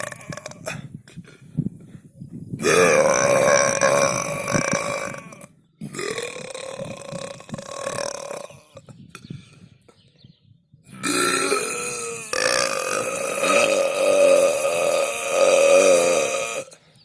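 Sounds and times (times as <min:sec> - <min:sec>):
person burping: 0:00.0 - 0:01.3, 0:02.6 - 0:09.3, 0:10.9 - 0:16.8.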